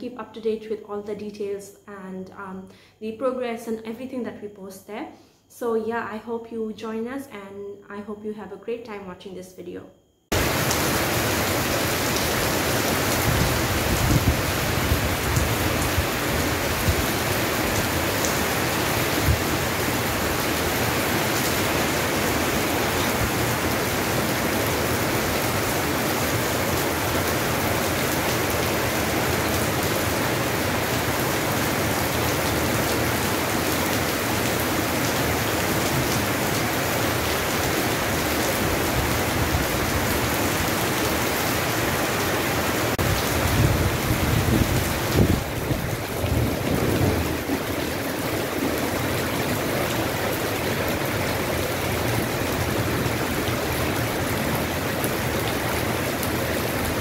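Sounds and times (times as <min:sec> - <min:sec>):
steady rain: 0:10.3 - 0:57.0.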